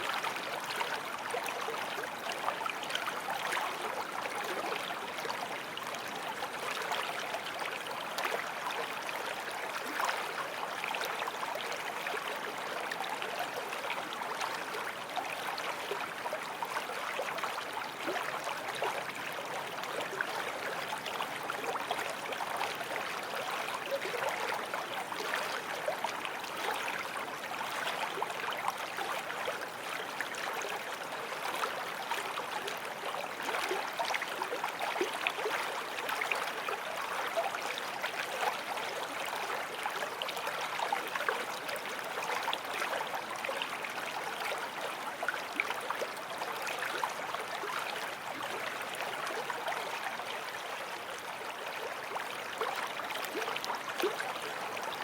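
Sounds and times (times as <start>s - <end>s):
forest stream flowing: 0.0s - 55.0s.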